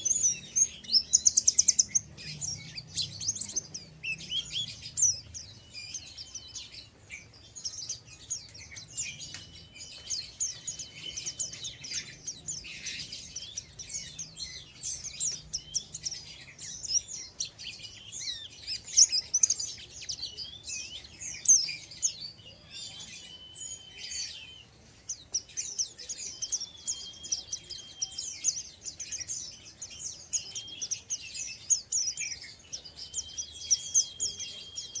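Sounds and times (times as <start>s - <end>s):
bird twittering high chirps: 0.0s - 35.0s.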